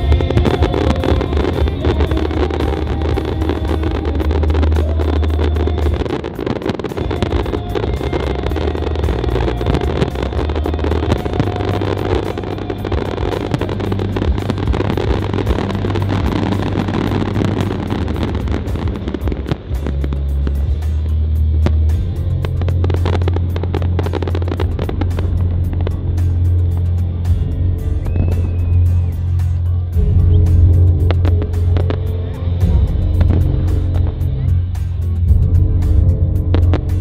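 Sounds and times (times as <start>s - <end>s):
fireworks crackling and rumbling: 0.0s - 37.0s
music over loudspeakers: 0.0s - 37.0s.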